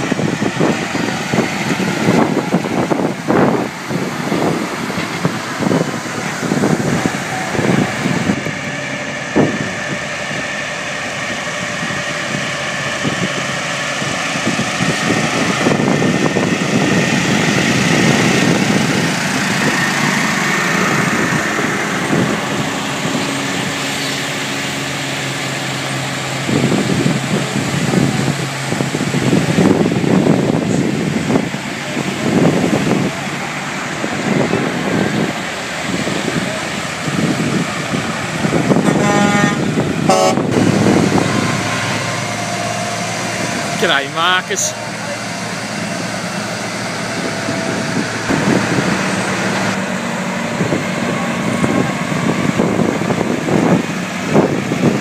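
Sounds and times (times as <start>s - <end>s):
diesel trucks rumbling past: 0.0s - 55.0s.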